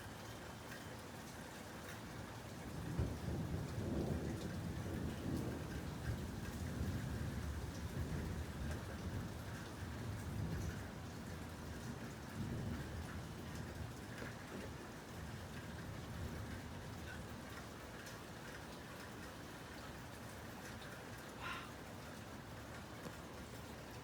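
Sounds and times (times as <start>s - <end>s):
steady rain: 0.0s - 24.0s
rain drop ticks: 0.2s - 24.0s.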